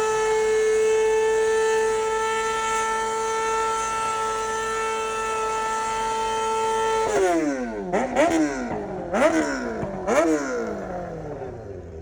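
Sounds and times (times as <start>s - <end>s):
motorcycle engine high revs: 0.0s - 12.0s.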